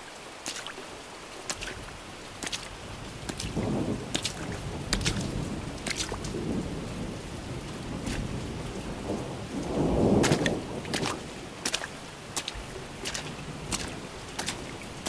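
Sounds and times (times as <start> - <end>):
rain falling: 0.0 - 15.0
thunder rumbling: 2.8 - 15.0.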